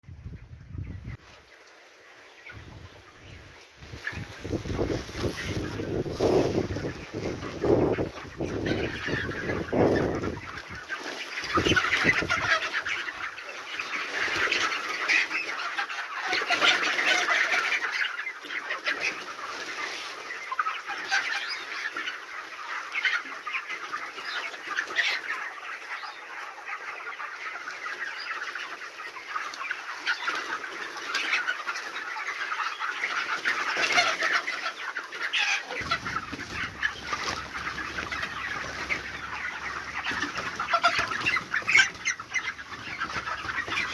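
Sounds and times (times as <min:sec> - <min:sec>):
chicks peeping: 0:00.1 - 0:43.9.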